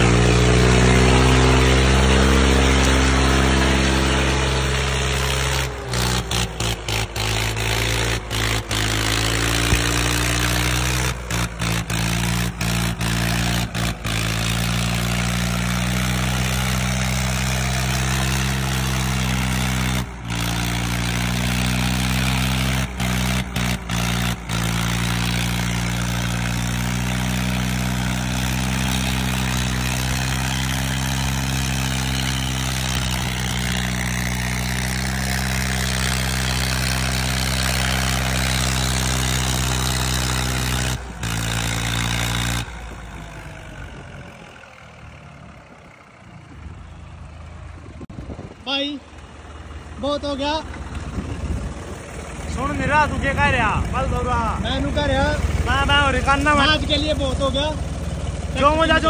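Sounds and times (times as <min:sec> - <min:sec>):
tractor diesel engines under load: 0:00.0 - 0:59.0.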